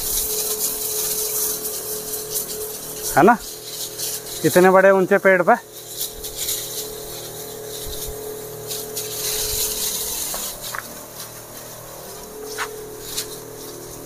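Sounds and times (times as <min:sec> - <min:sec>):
electric pump hum: 0:00.0 - 0:14.0
water jet hissing: 0:00.0 - 0:14.0.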